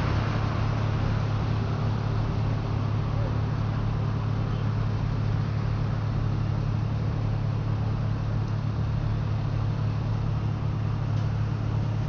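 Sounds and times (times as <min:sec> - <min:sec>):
road traffic passing: 0:00.0 - 0:12.0
truck engine idling: 0:00.0 - 0:12.0.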